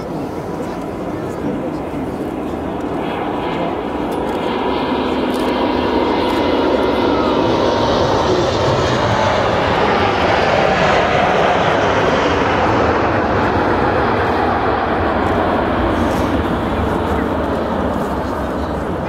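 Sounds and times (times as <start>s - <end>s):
faint jet engine whine: 0.0s - 19.0s
jet engine rush: 0.0s - 19.0s.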